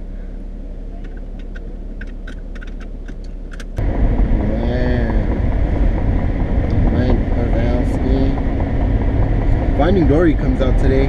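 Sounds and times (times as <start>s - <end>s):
car interior hum: 0.0s - 11.0s
car rumbling on road: 0.0s - 11.0s.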